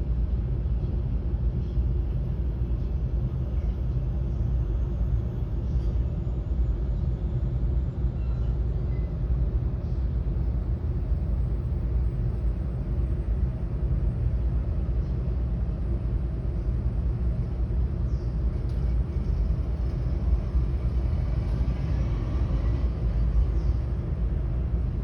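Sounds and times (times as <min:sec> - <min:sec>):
faint engine whine: 0:00.0 - 0:25.0
jet engines rumbling: 0:04.1 - 0:25.0.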